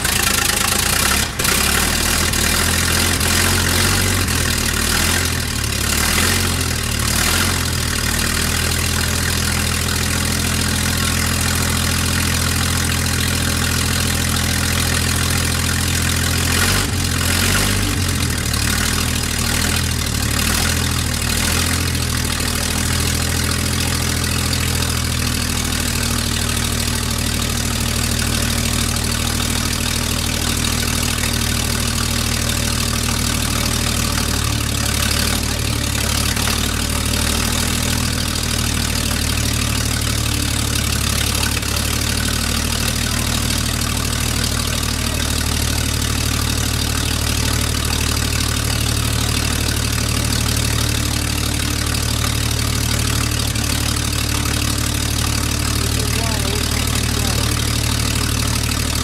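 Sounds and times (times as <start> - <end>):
six-cylinder engine idling: 0.0 - 59.0.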